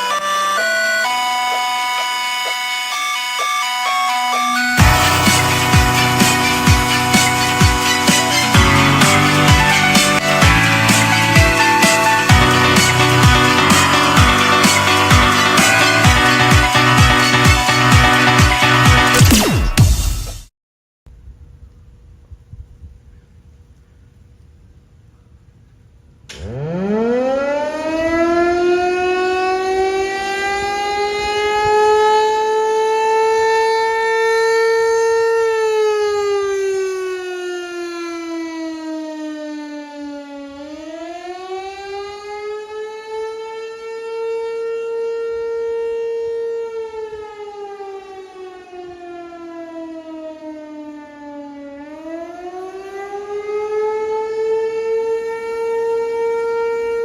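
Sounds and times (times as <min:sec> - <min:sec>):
warning siren winding up and wailing: 0:00.0 - 0:19.8, 0:26.3 - 0:57.0.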